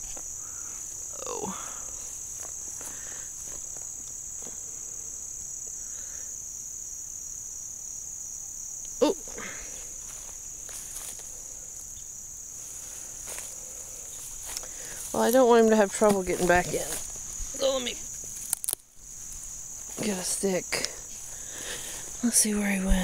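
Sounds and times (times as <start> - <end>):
vegetation rustling: 0.0 - 5.6, 9.1 - 23.0
insects chorus: 0.0 - 23.0.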